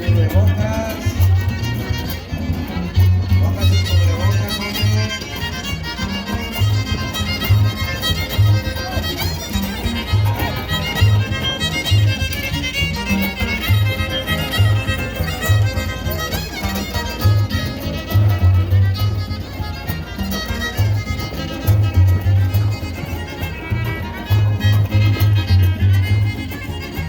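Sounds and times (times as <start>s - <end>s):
strummed guitars: 0.0s - 27.0s
violin melody: 0.0s - 27.0s.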